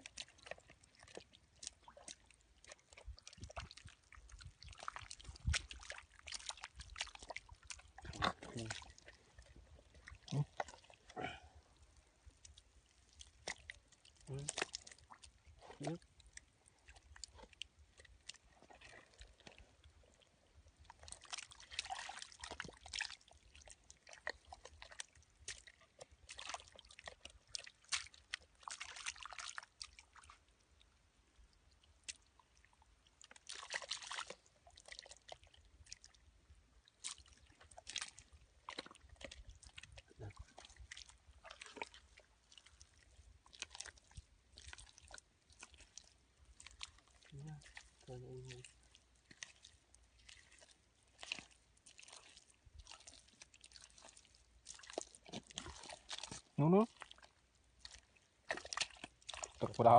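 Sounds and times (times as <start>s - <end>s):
hands squelching in wet mud: 0.0s - 30.5s, 32.0s - 36.2s, 36.8s - 59.9s.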